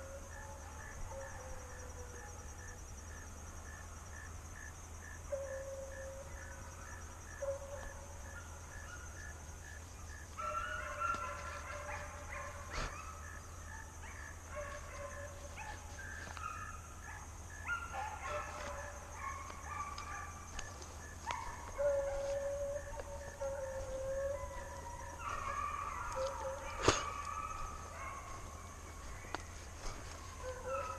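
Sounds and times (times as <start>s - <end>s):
insect trill: 0.0s - 30.9s
hounds baying: 5.3s - 30.9s.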